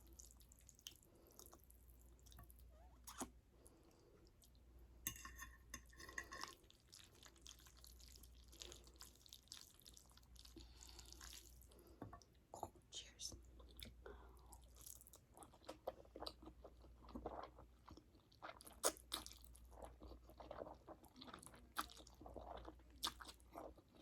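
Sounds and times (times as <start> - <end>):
person chewing noodles: 0.0 - 4.6, 6.2 - 12.0, 13.6 - 24.0.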